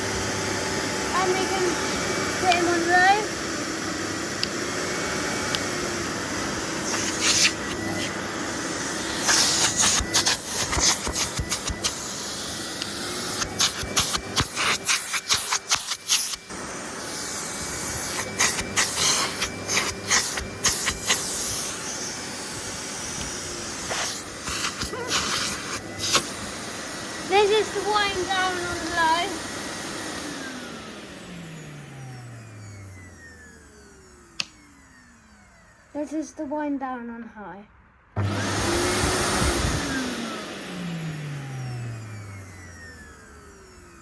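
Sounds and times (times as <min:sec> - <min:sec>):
vacuum cleaner motor hum: 0:00.0 - 0:36.5, 0:38.2 - 0:44.0.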